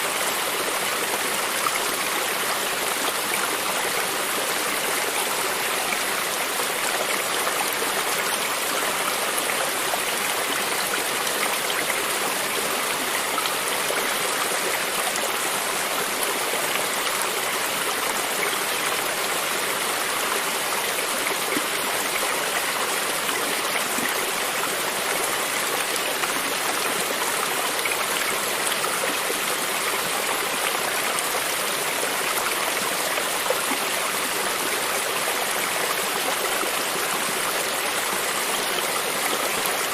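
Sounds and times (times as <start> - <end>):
creek water running over stones: 0.0 - 39.9.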